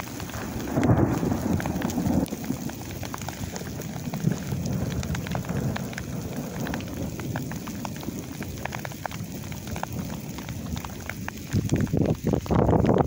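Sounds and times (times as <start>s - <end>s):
rain hiss: 0.0s - 13.0s
raindrops ticking: 0.0s - 13.0s.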